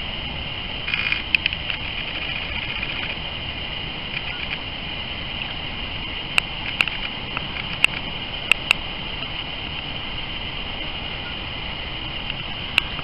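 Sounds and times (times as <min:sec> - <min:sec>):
lakeshore rumble and hiss: 0:00.0 - 0:13.0.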